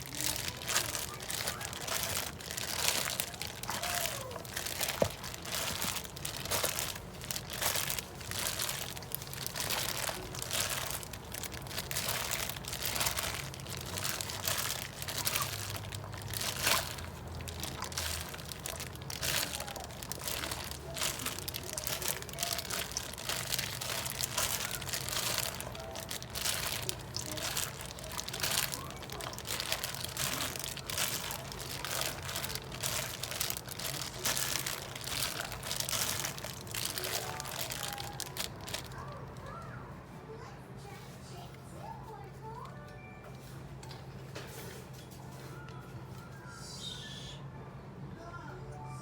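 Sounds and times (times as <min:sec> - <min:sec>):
plastic bag crinkling: 0:00.0 - 0:39.6.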